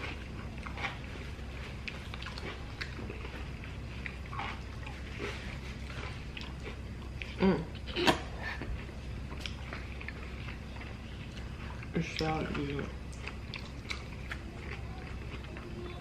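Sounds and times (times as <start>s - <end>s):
crunchy chewing: 0.0s - 16.0s
steady low hum: 0.0s - 16.0s.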